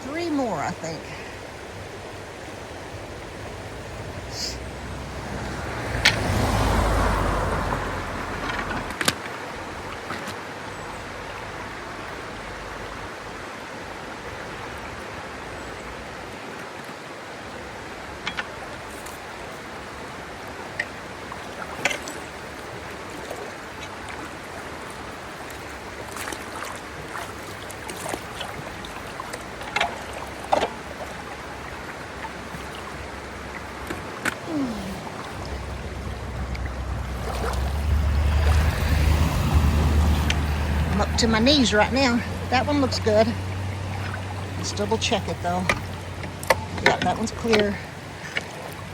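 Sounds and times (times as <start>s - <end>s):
floodwater rushing through culverts: 0.0s - 48.9s
water whoosh: 1.6s - 15.0s, 17.8s - 48.9s
knocks and splashes in water: 2.8s - 48.9s.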